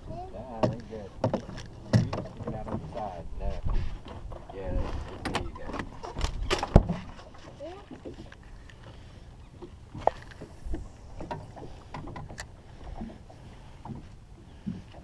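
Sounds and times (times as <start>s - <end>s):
waves lapping against boat hull: 0.0s - 15.0s.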